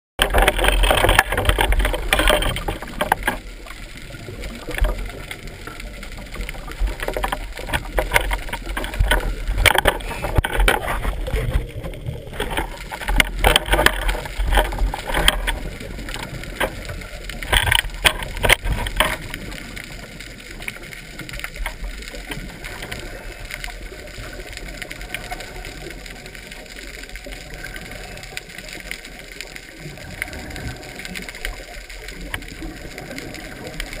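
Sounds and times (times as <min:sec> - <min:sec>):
muffled underwater rushing: 0:00.2 - 0:34.0
underwater crackling bursts: 0:00.2 - 0:34.0.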